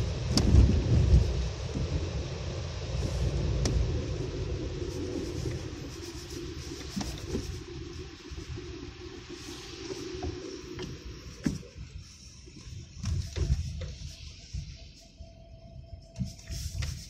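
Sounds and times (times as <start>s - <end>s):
engine and tyres rumble: 0.0s - 17.0s.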